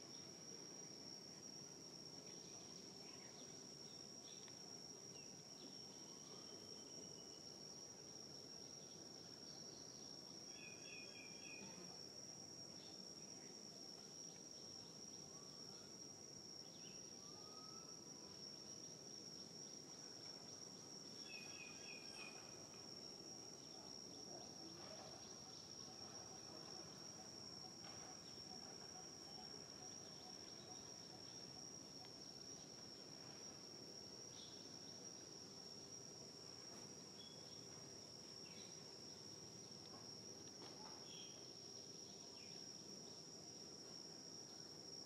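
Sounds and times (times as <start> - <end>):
insect chirps: 0.0 - 45.0.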